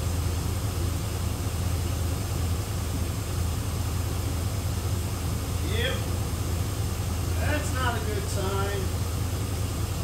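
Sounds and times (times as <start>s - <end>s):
pickup truck engine idling: 0.0s - 10.0s.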